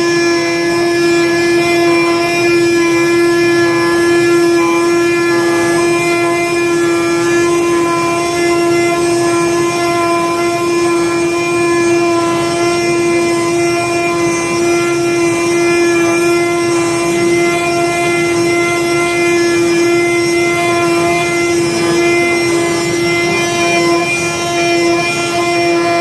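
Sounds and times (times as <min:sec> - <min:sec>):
cutting machine humming: 0:00.0 - 0:26.0.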